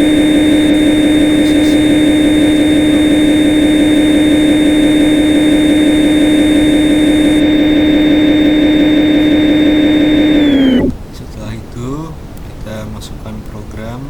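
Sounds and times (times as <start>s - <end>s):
machine electric hum with whine: 0.0s - 14.0s.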